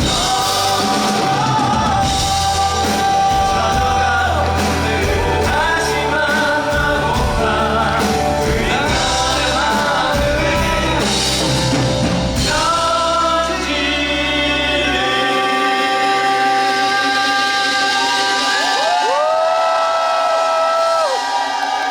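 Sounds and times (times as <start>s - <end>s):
cast singing a ballad: 0.0s - 19.1s
live band playing: 0.0s - 21.8s.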